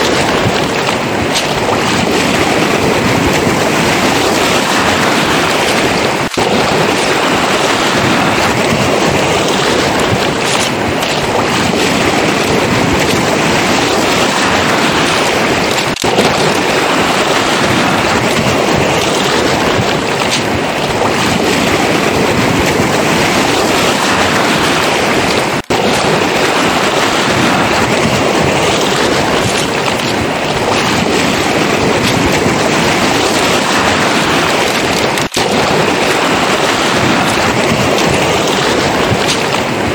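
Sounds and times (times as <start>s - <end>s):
surf washing on pebbles: 0.0s - 39.9s
wind rumbling on microphone: 0.0s - 39.9s.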